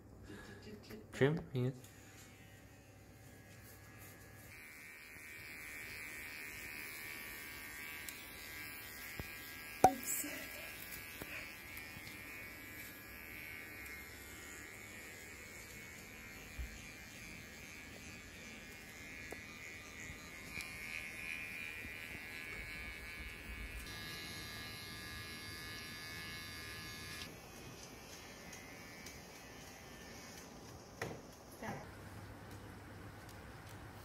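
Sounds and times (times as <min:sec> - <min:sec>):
electric pet trimmer buzzing: 0:01.8 - 0:31.4.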